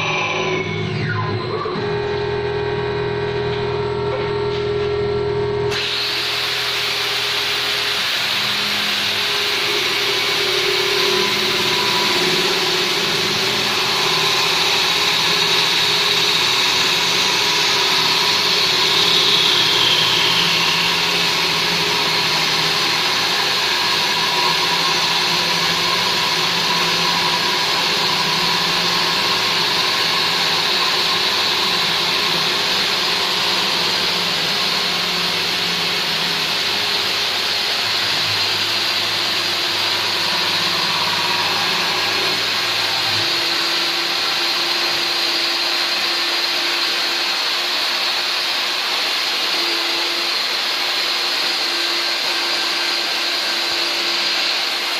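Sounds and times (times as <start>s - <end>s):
high whine sliding down: 0.0s - 47.0s
lathe machine whir: 0.0s - 54.9s
cutter hiss on wood: 5.7s - 54.9s.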